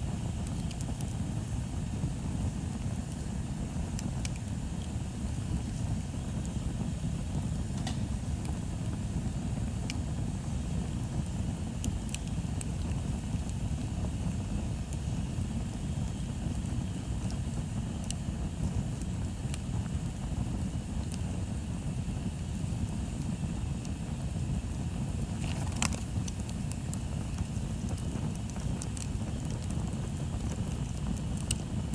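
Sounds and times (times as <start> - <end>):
bonfire rumbling and crackling: 0.0 - 31.9.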